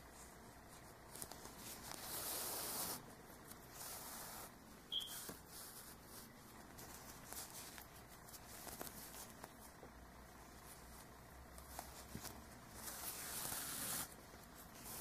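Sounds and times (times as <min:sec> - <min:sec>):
hands rustling yarn: 0:00.0 - 0:15.0.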